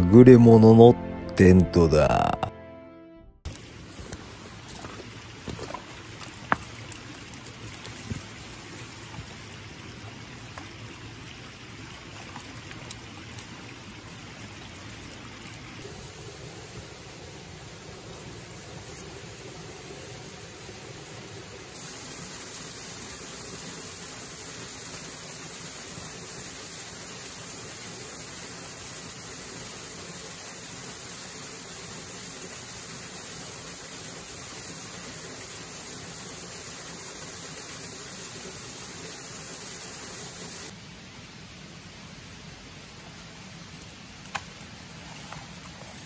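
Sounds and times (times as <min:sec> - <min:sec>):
waterfall pouring onto rocks: 0:03.5 - 0:40.8.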